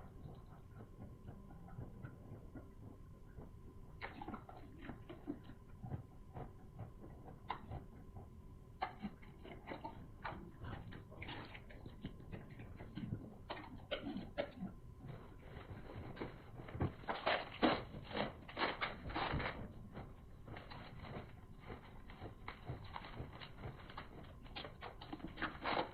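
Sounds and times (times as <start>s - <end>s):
wet chewing noises: 0.0s - 25.9s.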